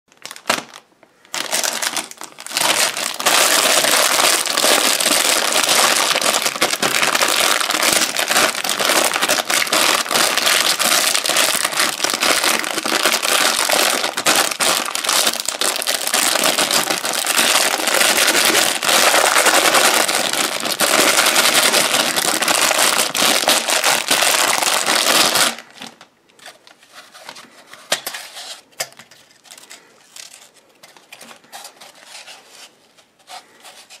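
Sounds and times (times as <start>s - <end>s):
plastic packaging crinkling: 0.1s - 34.0s.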